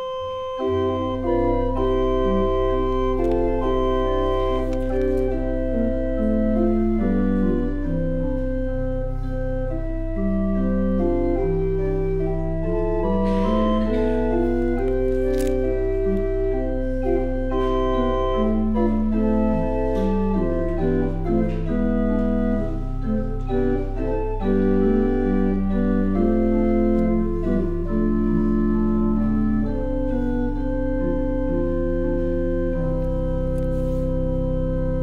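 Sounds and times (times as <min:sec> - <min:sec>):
pipe organ playing chords: 0:00.0 - 0:35.0.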